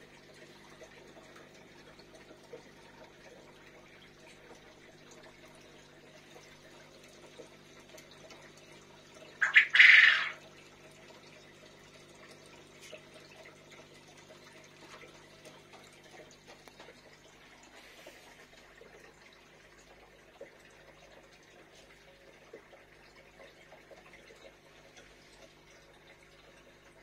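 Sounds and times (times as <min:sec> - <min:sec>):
aquarium water trickling and bubbling: 0:00.0 - 0:27.0
faint steady hum: 0:00.0 - 0:27.0.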